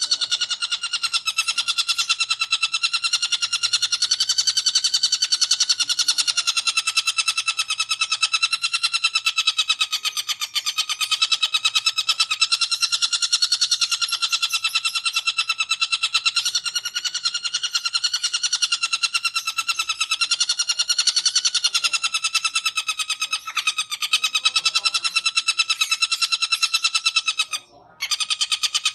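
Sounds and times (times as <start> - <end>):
shrike harsh chatter: 0.0 - 28.9.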